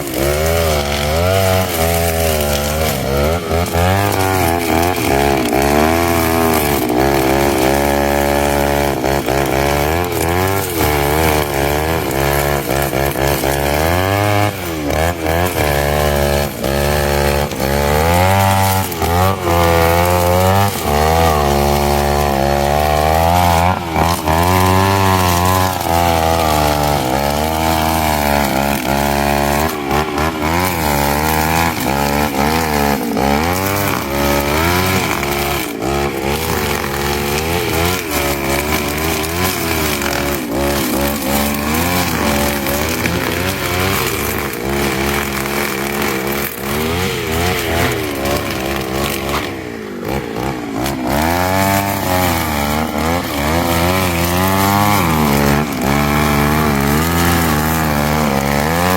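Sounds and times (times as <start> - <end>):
brush cutter cutting grass: 0.0 - 58.9.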